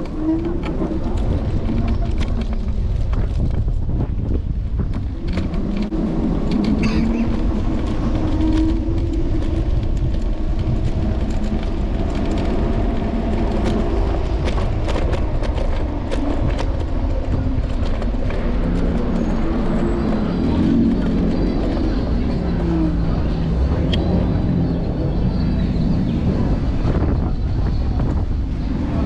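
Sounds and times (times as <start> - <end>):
low motor hum: 0.0 - 29.0
wind and road noise rumble: 0.0 - 29.0.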